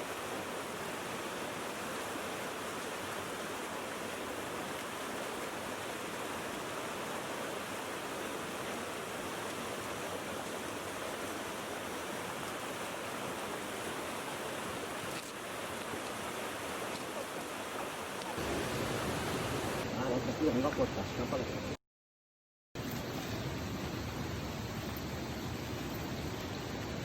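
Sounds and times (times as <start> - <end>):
stream water rushing: 0.0 - 21.7.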